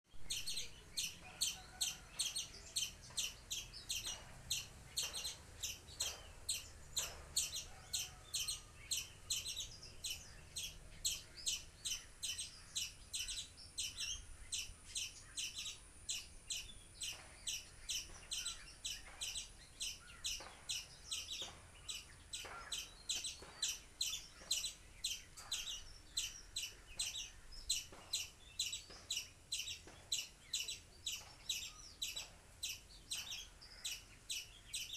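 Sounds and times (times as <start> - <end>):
bird chirping high: 0.2 - 34.9.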